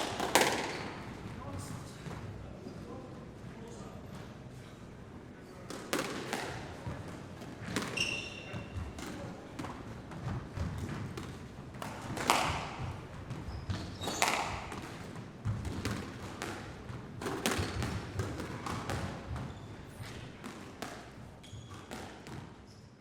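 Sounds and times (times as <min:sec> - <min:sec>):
balls bouncing on hall floor: 0:00.0 - 0:04.5, 0:05.6 - 0:23.0.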